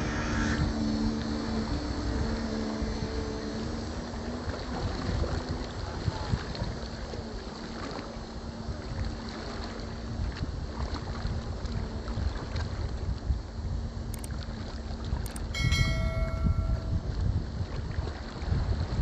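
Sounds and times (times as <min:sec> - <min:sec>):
wind buffeting microphone: 0:00.0 - 0:07.5, 0:08.4 - 0:19.0
model boat motor humming: 0:00.0 - 0:17.2.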